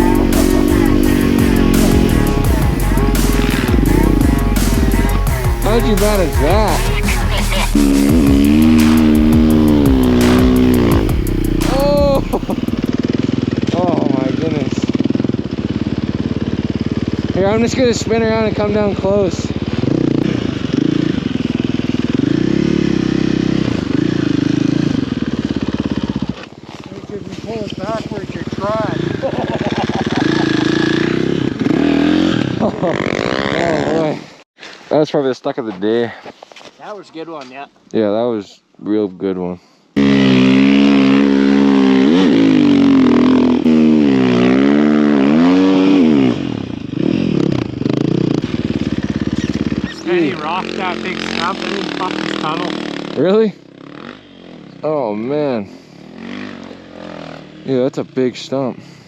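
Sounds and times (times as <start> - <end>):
dirt bike engine revving: 0.0 - 34.2, 40.0 - 59.0.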